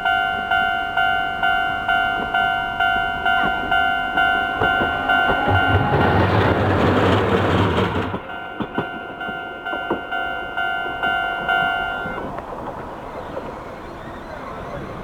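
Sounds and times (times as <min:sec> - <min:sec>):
level crossing warning bell: 0:00.0 - 0:13.7
tram rumbling: 0:00.0 - 0:15.0
train wheel clacks: 0:01.4 - 0:13.7.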